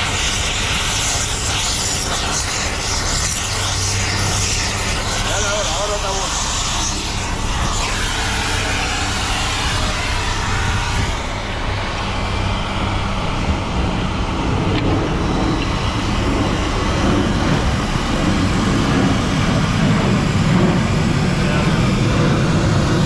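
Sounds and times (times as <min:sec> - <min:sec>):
vehicle engine running: 0:01.4 - 0:23.0.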